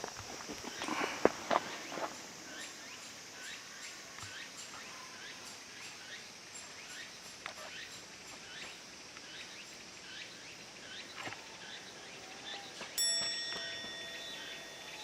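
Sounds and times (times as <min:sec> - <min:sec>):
evening cicadas calling: 0:00.0 - 0:15.0.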